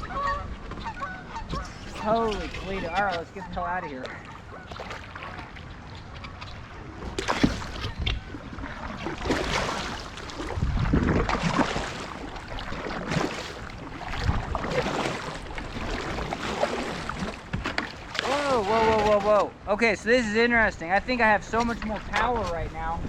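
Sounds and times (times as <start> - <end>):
paddle splashing water: 0.0 - 19.7, 21.4 - 23.0
wind buffeting microphone: 0.0 - 19.8, 20.6 - 23.0.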